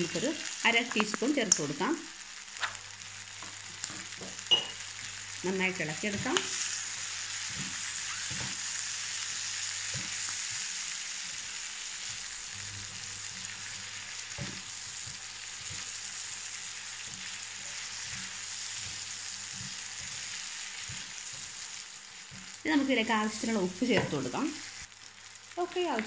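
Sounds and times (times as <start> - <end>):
shrimp sizzling in oil: 0.0 - 26.0.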